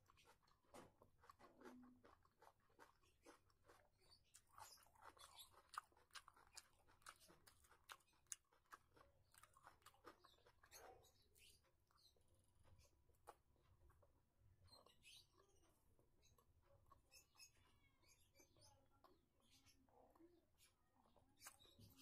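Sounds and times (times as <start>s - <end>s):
chewing and mouth clicks: 0.0s - 22.0s.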